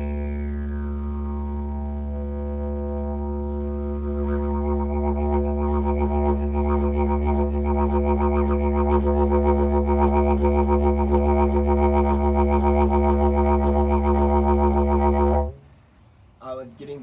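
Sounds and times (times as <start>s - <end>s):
didgeridoo drone: 0.0s - 15.6s.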